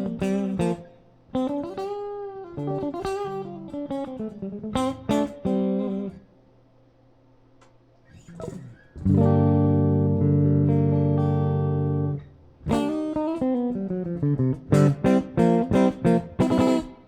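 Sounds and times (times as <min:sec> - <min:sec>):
clean electric guitar: 0:00.0 - 0:06.4, 0:07.6 - 0:17.0.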